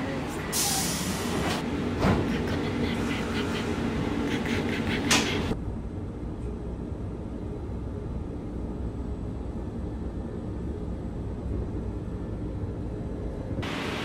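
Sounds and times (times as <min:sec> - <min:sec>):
train rumble from inside: 0:00.0 - 0:13.9.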